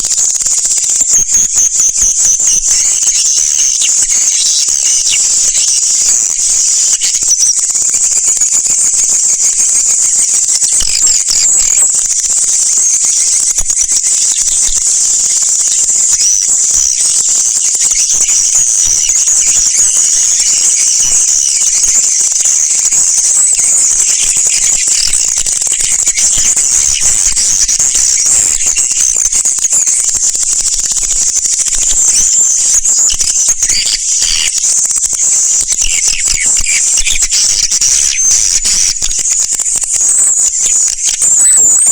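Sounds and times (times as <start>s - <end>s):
swiftlets twittering: 0.7s - 41.9s.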